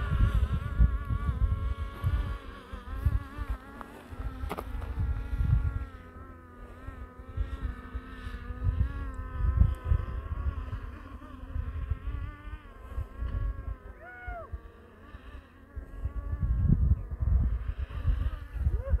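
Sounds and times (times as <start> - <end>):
drone propellers whining: 0.0 - 19.0
wind rumbling on microphone: 0.0 - 19.0.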